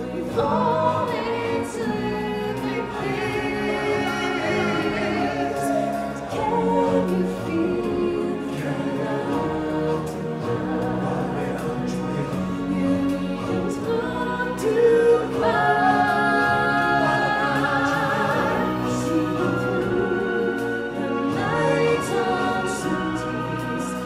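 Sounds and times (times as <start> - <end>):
choir singing: 0.0 - 24.0
orchestral music: 0.0 - 24.0.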